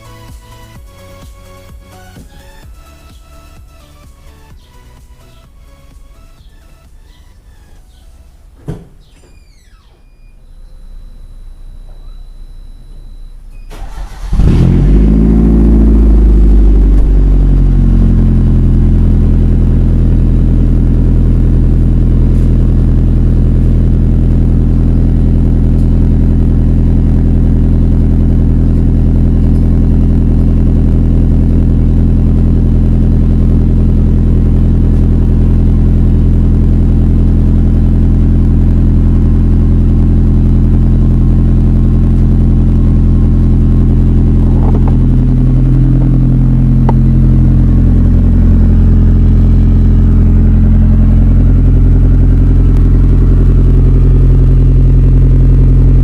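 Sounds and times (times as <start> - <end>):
vehicle engine starting and idling: 0.0 - 56.0.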